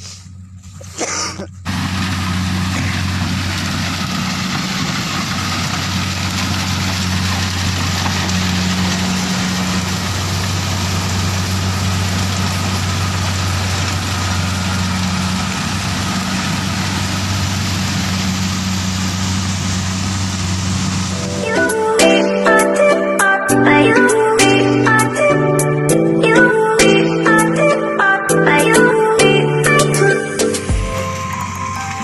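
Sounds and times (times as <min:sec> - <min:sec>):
reaper engine humming: 0:00.0 - 0:32.0.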